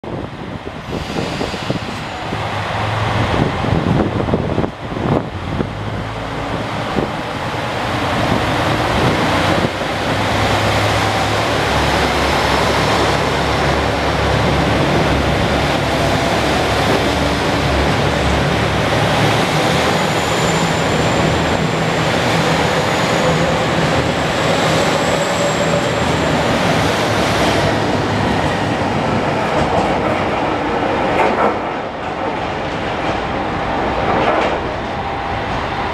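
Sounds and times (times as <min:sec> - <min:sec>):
diesel train engines running: 0:00.6 - 0:35.9.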